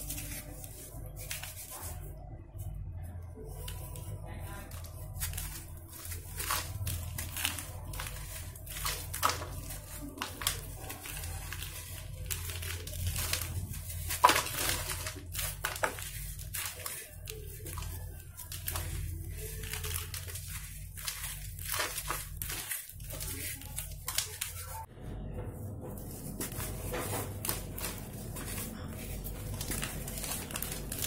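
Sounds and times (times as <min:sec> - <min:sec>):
gritty mix crunching and crackling: 0:03.6 - 0:24.9, 0:25.8 - 0:31.0.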